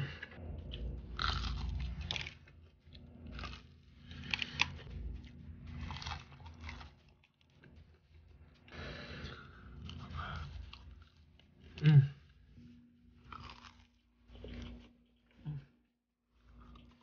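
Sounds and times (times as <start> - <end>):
crunching and chewing fried chicken: 0.6 - 12.4, 13.0 - 15.7, 16.3 - 17.0.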